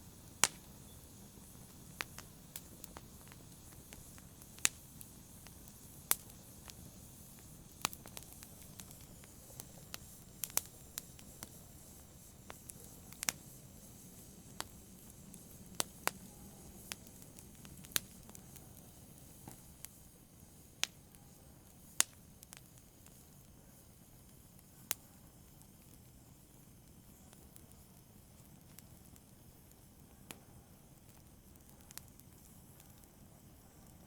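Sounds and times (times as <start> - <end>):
faint low hiss: 0.0 - 34.0
fire crackling in a brazier: 0.0 - 34.0.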